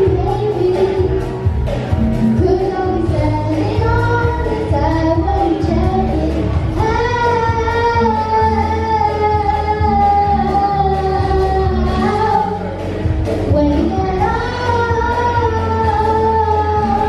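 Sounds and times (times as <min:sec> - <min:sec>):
woman singing: 0:00.0 - 0:01.5, 0:02.2 - 0:12.8, 0:13.4 - 0:17.0
steady bass line: 0:00.0 - 0:17.0.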